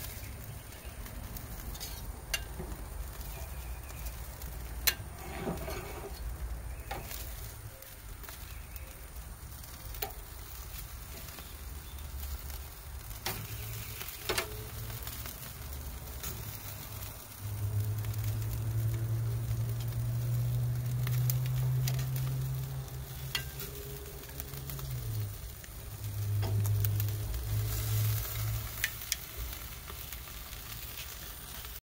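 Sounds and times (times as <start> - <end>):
chicken sizzling on grill: 0.0 - 31.8.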